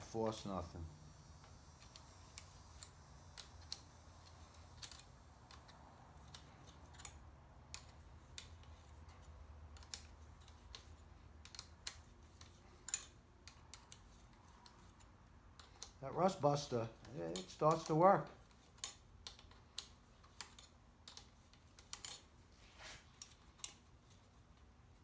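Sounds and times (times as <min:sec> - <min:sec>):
low steady hum: 0:00.0 - 0:25.0
small metallic clicks and taps: 0:01.4 - 0:16.0, 0:17.0 - 0:22.3, 0:23.1 - 0:24.2.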